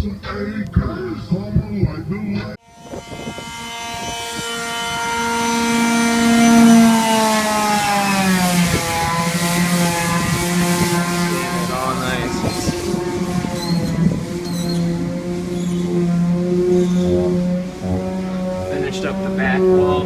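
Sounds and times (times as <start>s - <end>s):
electric power tool motor running: 2.6s - 20.0s.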